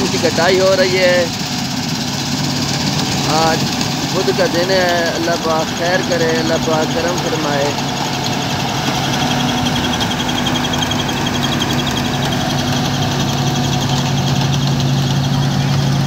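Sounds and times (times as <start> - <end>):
engine drone: 0.0 - 16.0
rattle of machinery: 0.0 - 16.0.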